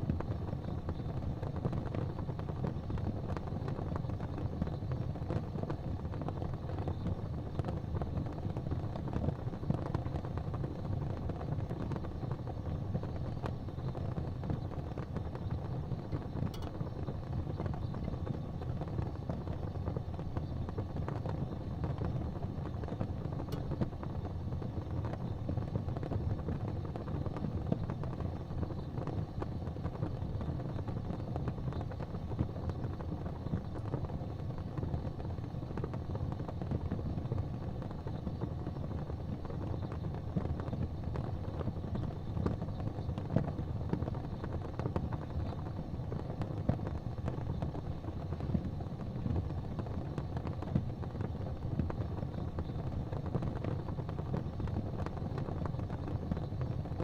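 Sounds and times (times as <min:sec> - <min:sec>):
faint fire crackles: 0:00.0 - 0:57.0
fire rumbling: 0:00.0 - 0:57.0.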